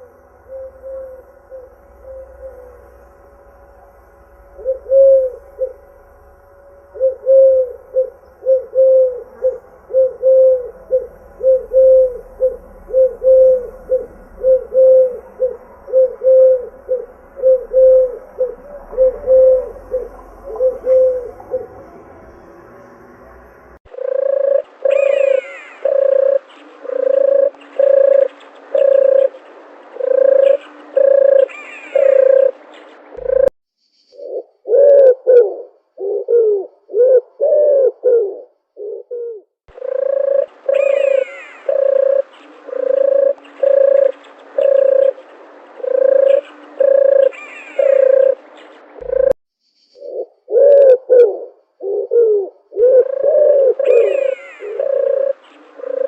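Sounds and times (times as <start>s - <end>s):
dove cooing: 0.0s - 2.8s, 4.6s - 5.8s, 6.9s - 22.1s, 23.9s - 33.5s, 34.2s - 49.4s, 50.0s - 56.0s
faint high bird calls: 0.0s - 23.0s, 23.9s - 56.0s.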